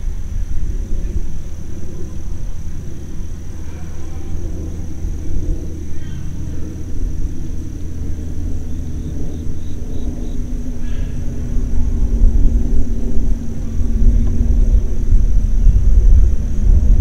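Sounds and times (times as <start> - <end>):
high-pitched drone: 0.0 - 17.0
low engine-like hum: 0.0 - 17.0
steady low rumble: 0.0 - 17.0.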